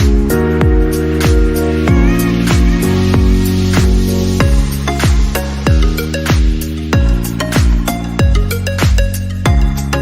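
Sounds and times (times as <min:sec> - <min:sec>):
held chords: 0:00.0 - 0:10.0.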